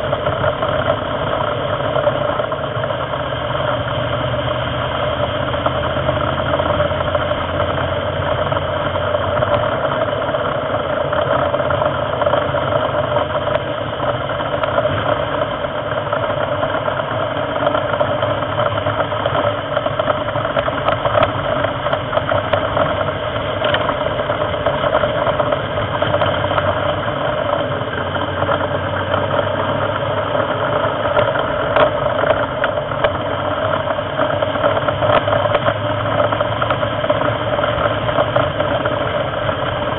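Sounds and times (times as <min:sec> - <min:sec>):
racing car engine: 0:00.0 - 0:39.9
wind and road noise: 0:00.0 - 0:39.9.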